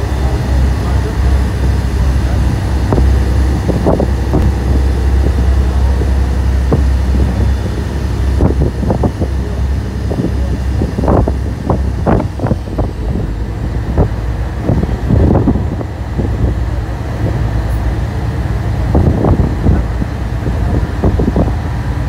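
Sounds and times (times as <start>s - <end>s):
boat engine rumbling: 0.0s - 22.0s
wind on microphone: 0.0s - 22.0s.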